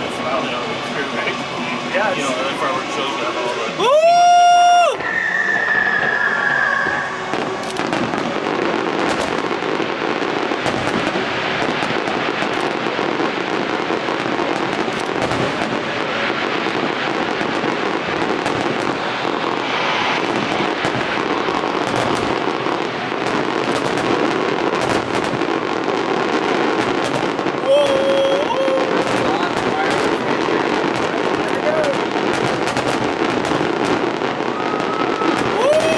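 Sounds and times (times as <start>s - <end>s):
fireworks crackling: 0.0s - 35.9s
fireworks cracks and bangs: 0.0s - 35.9s.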